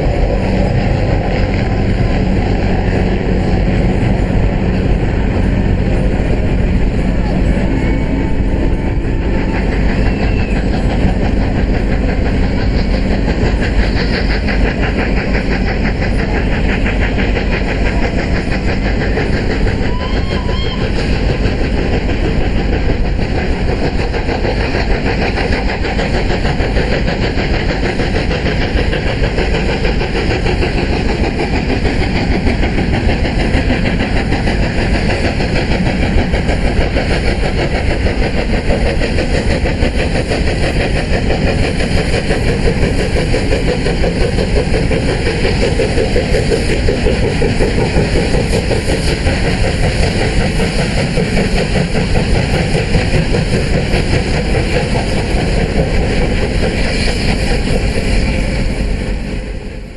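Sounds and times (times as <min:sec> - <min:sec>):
steam locomotive working hard: 0:00.0 - 0:59.9.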